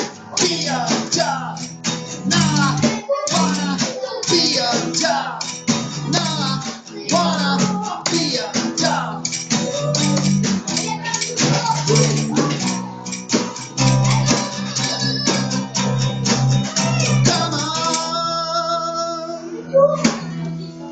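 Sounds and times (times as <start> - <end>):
electric bass guitar: 0.0 - 18.9
musical backing: 0.0 - 20.9.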